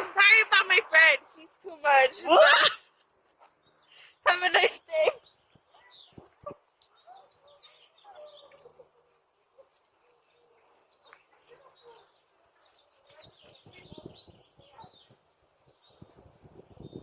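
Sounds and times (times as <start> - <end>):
small birds chirping: 0.6 - 17.0.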